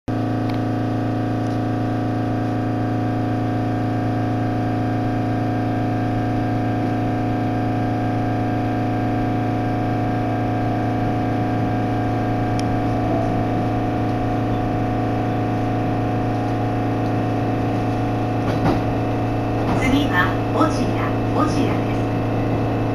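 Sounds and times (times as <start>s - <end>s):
electric train running hum: 0.1s - 22.9s.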